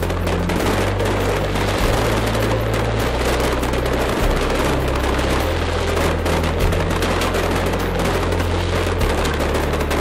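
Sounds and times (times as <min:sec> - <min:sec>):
fireworks crackling and banging: 0:00.0 - 0:10.0.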